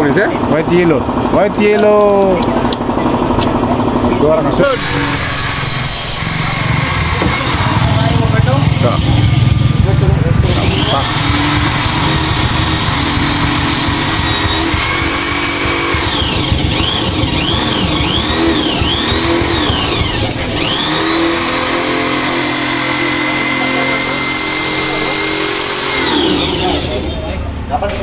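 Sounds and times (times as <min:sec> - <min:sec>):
electric drill whining: 0:00.5 - 0:27.4.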